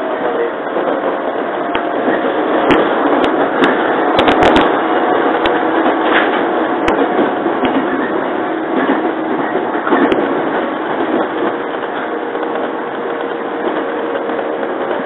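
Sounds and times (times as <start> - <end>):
train carriage rumble: 0.0 - 15.0
sharp clicks and knocks: 1.7 - 8.0, 8.7 - 15.0.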